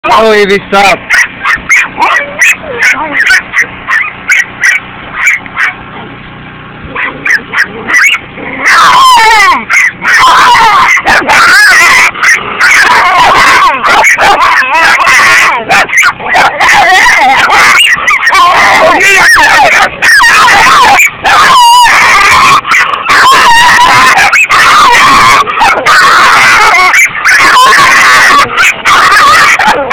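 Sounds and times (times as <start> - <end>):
puppy high cry: 1.1 - 5.8, 7.0 - 29.9
puppy yapping: 1.1 - 5.8, 6.9 - 29.9.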